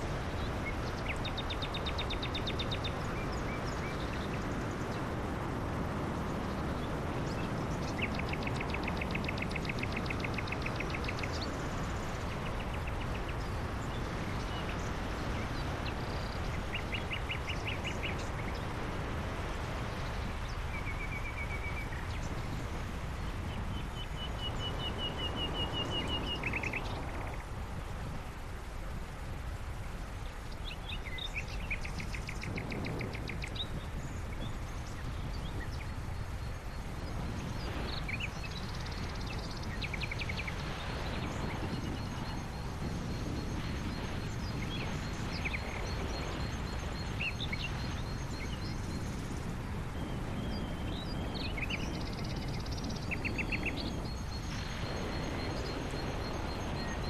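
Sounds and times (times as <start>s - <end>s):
songbirds trilling: 0.0s - 28.5s, 29.4s - 57.0s
car road and wind noise: 0.0s - 57.0s.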